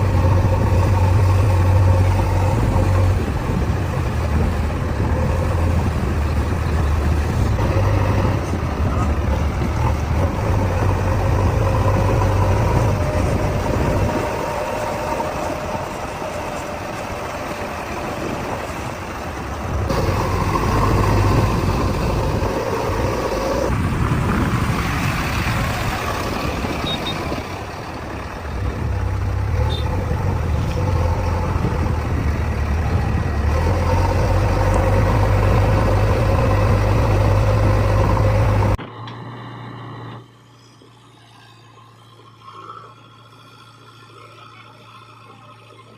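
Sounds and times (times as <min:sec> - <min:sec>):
backhoe diesel engine revving: 0:00.0 - 0:45.9.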